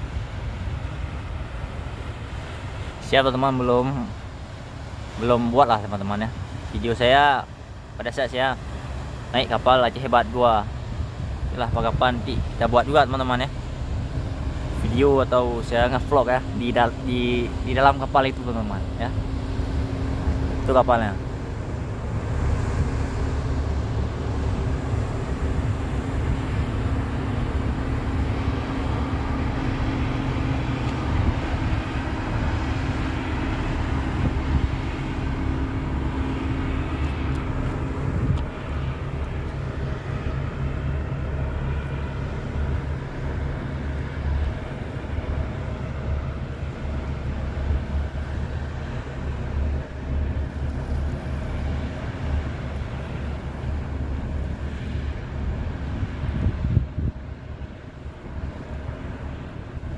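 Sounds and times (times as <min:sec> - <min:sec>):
ferry engines droning: 0:00.0 - 0:59.9
wind rumble on microphone: 0:00.0 - 0:59.9.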